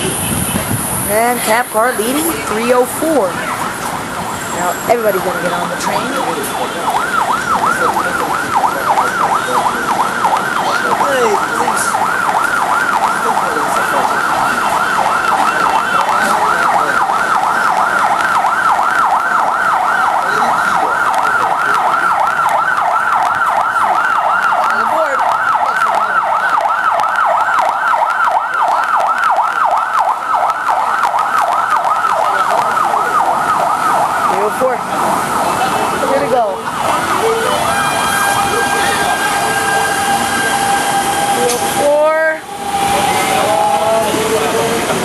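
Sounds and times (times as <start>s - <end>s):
warbling train door alarm: 4.1s - 34.9s, 36.0s - 45.0s.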